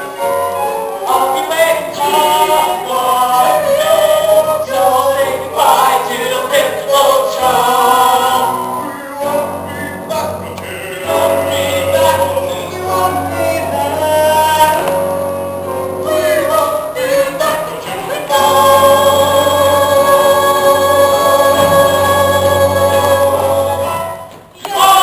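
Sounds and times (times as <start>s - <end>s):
low musical accompaniment: 0.0s - 25.0s.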